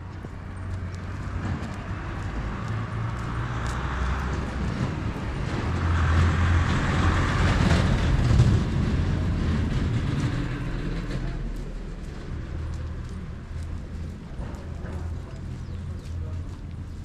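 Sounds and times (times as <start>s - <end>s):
vehicle engine passing: 0.0s - 17.0s.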